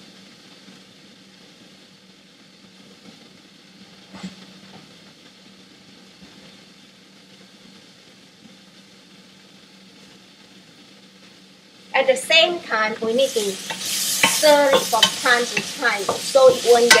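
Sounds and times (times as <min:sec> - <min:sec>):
okra sizzling in frying pan: 0:00.0 - 0:17.0.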